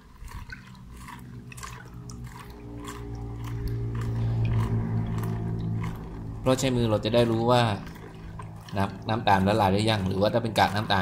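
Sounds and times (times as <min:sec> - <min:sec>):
steady low hum: 0:00.0 - 0:11.0
water sloshing in a bucket: 0:00.0 - 0:11.0.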